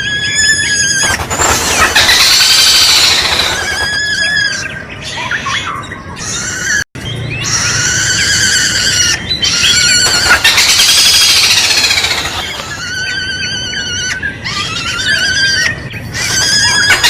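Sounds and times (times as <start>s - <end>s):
bird squealing call: 0.0s - 6.8s, 7.4s - 17.0s.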